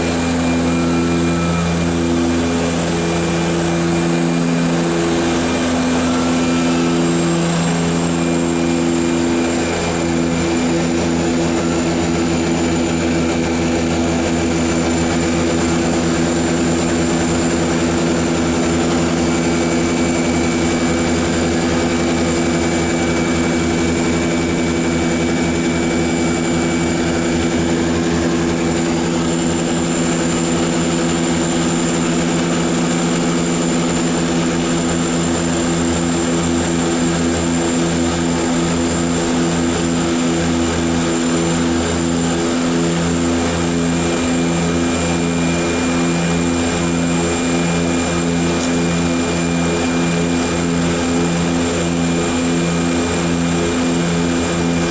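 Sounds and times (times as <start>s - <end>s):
propeller drone: 0.0s - 54.9s
turbine whine: 0.0s - 54.9s.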